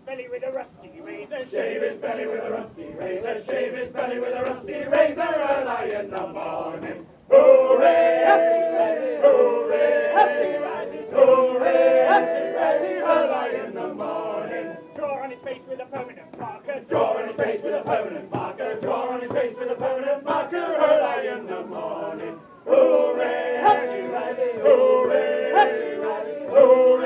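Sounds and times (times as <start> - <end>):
group singing unaccompanied: 1.0 - 27.0.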